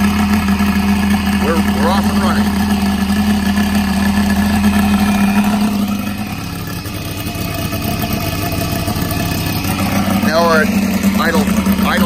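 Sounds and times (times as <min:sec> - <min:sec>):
model engine running: 0:00.0 - 0:12.0.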